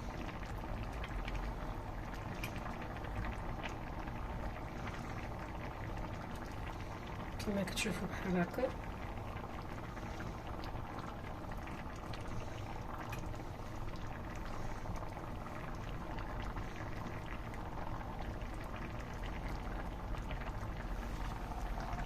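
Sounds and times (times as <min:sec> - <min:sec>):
broth bubbling with small pops: 0:00.0 - 0:22.0.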